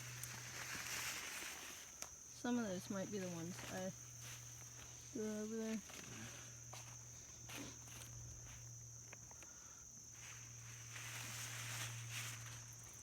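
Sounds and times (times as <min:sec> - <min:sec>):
vines and soil rustling: 0:00.0 - 0:09.1, 0:10.0 - 0:13.0
insect trill: 0:00.0 - 0:13.0.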